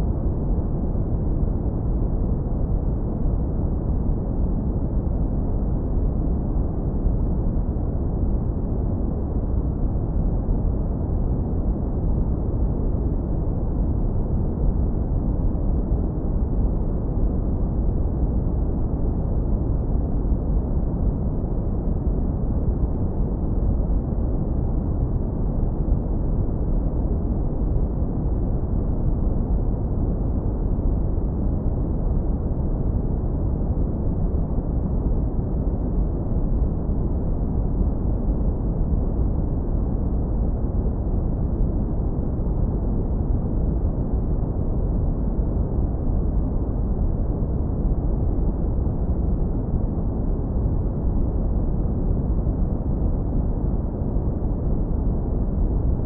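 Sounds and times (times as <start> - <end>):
deep rumbling brown noise: 0.0 - 56.0.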